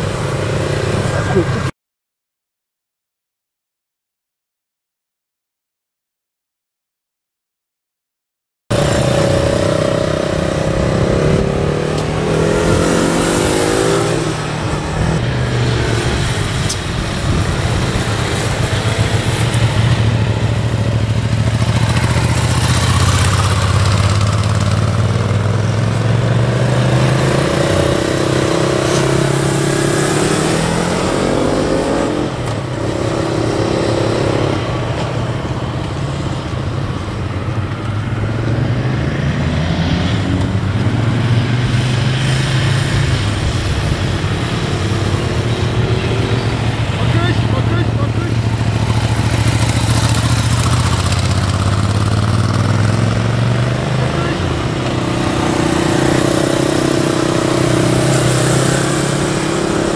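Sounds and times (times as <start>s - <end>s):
motorcycle engines revving: 0.0s - 1.7s, 8.7s - 59.9s.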